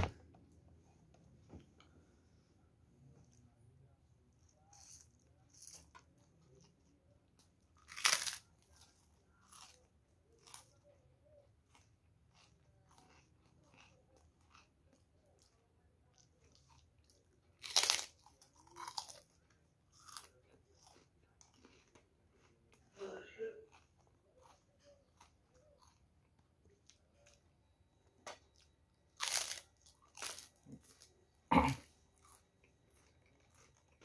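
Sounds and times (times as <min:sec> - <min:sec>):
crunching crackers: 0:03.0 - 0:34.0
chewing crunches: 0:04.3 - 0:23.0, 0:23.6 - 0:27.5, 0:28.3 - 0:34.0.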